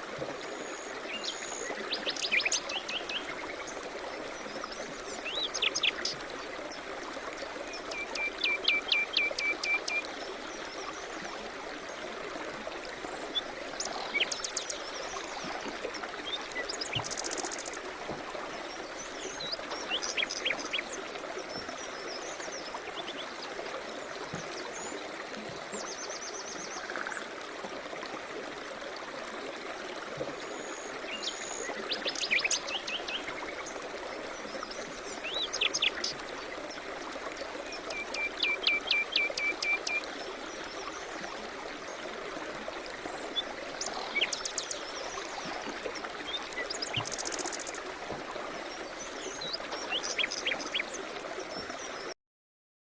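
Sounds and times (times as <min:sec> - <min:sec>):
flowing stream: 0:00.0 - 0:52.2.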